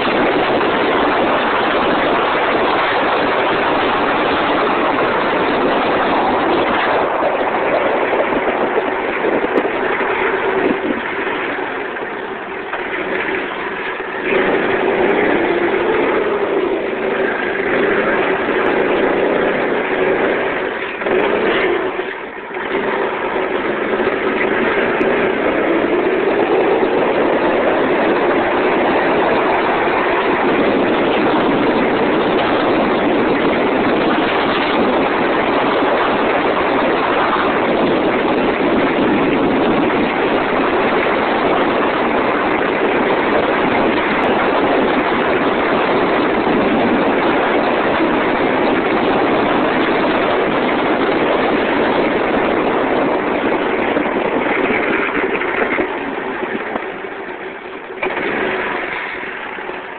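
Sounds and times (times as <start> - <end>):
go-kart engine running: 0.0 - 59.9
wind on microphone: 0.0 - 59.9.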